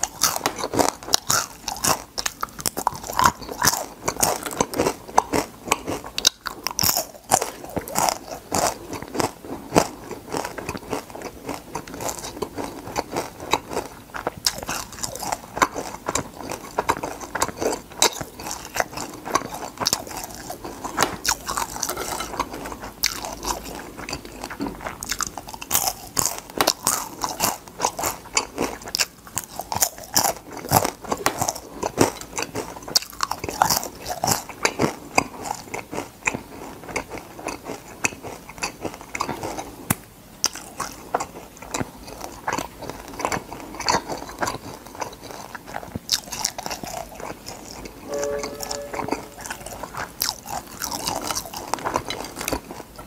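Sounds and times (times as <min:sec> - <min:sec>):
crunchy chewing: 0:00.0 - 0:48.0, 0:50.0 - 0:52.8.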